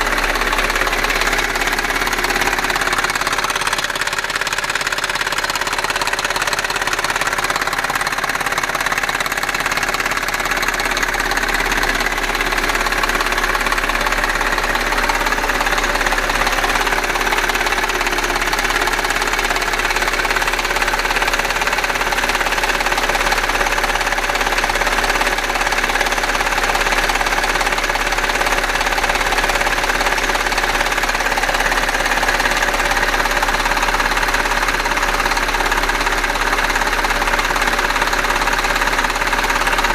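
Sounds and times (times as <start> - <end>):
engine running with clattering ticking: 0.0 - 39.9.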